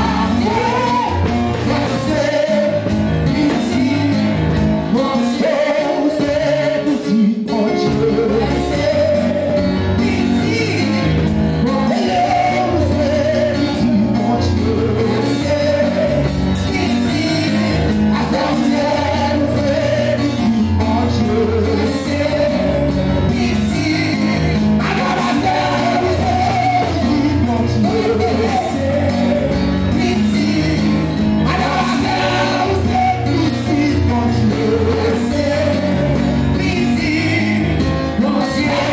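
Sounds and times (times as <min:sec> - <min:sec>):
congregation singing: 0:00.0 - 0:38.9
musical accompaniment: 0:00.0 - 0:38.9.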